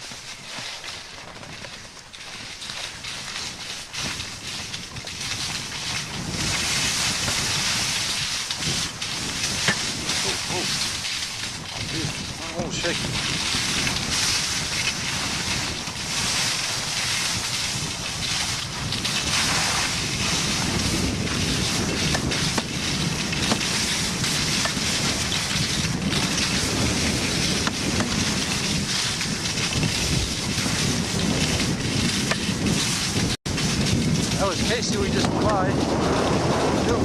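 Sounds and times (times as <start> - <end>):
wind buffeting microphone: 2.3 - 37.0.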